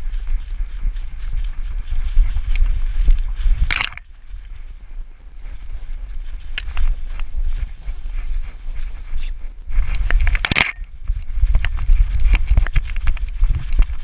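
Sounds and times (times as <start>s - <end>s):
dry leaves crunching underfoot: 0.0s - 14.0s
leaves and twigs crackling: 0.0s - 14.0s
wind buffeting camera: 0.0s - 14.0s.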